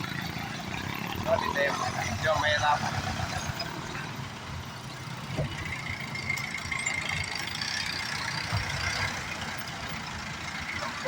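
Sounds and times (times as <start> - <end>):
passing vehicles rumbling: 0.0 - 11.0.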